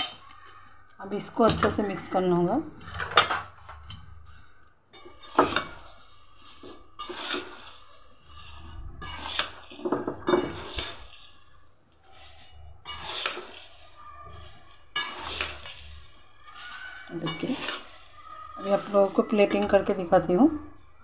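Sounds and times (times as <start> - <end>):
metal spoon scraping a wok: 0.0 - 2.5, 3.8 - 20.3.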